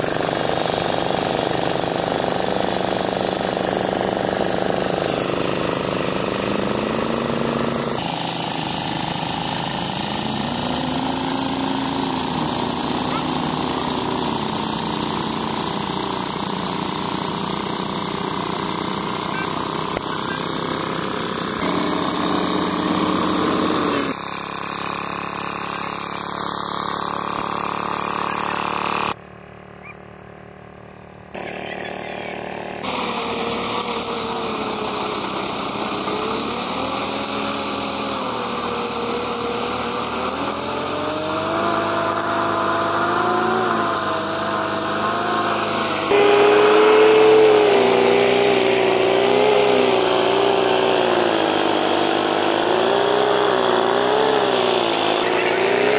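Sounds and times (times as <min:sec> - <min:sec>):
small threshing machine engine: 0:00.0 - 0:55.9.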